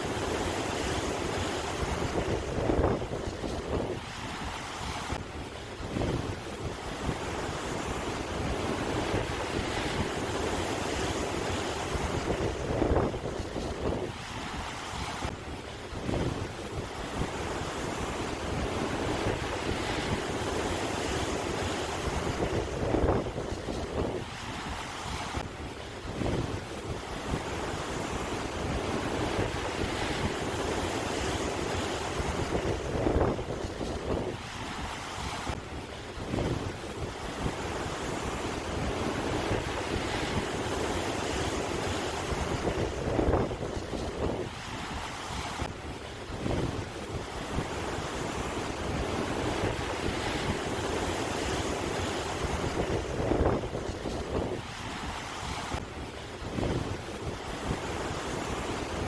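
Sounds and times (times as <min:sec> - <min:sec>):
sea waves breaking: 0:00.0 - 0:59.0
wind buffeting microphone: 0:00.0 - 0:59.0.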